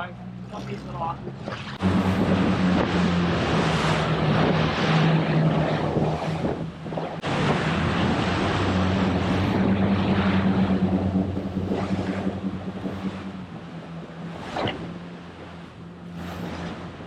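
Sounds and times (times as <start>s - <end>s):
outboard engine humming: 0.0s - 17.0s
wind and water rushing: 0.0s - 17.0s.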